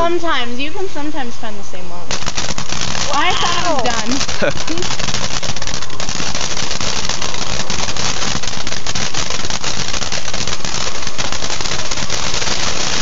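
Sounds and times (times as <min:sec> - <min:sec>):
firework fountain hissing and crackling: 0:00.0 - 0:13.0.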